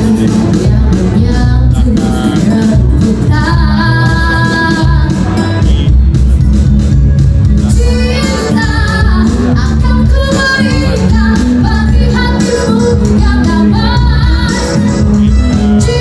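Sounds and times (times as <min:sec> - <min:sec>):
woman singing into microphone: 0:00.0 - 0:06.1, 0:07.7 - 0:16.0
instrumental music with heavy bass: 0:00.0 - 0:16.0.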